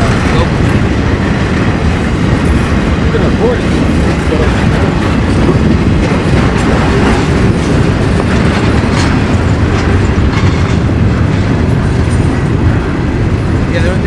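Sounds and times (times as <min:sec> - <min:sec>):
wheels clicking over track: 0:00.0 - 0:12.7
train rumbling on rails: 0:00.0 - 0:14.0.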